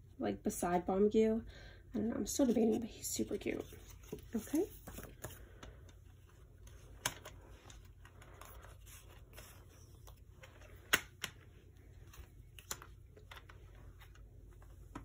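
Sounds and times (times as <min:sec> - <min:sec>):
paper booklet rustling: 0:02.3 - 0:05.6, 0:06.2 - 0:15.0.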